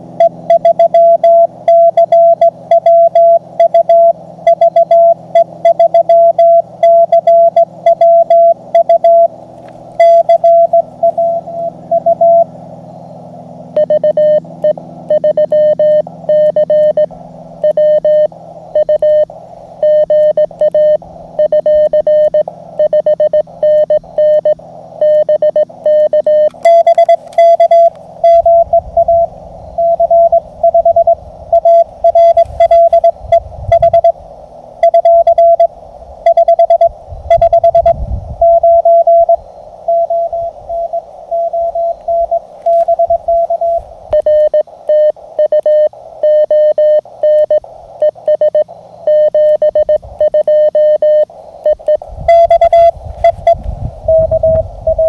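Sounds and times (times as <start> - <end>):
morse code tone keyed on and off: 0.0 - 55.0.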